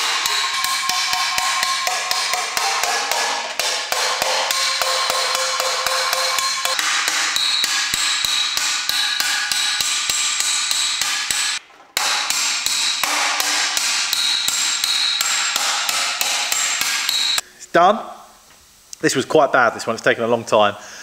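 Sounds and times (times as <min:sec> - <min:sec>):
hammer ringing on metal: 0:00.0 - 0:17.4.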